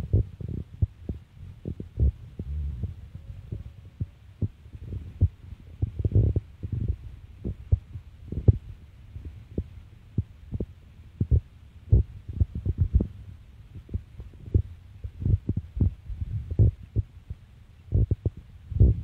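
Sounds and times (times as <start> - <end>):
faint steady hiss: 0.0 - 19.0
low thumps and rumble: 0.0 - 19.0.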